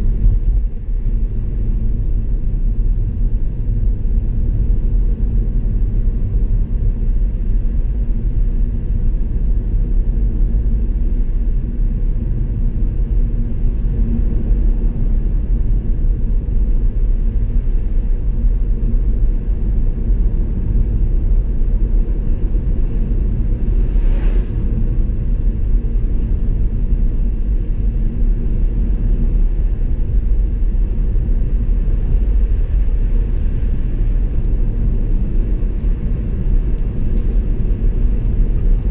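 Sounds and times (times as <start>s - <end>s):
car road noise: 0.0s - 38.9s.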